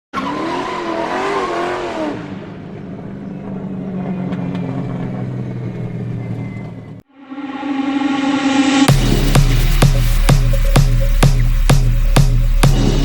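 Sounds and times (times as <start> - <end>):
car engine revving and droning: 0.2 - 13.0.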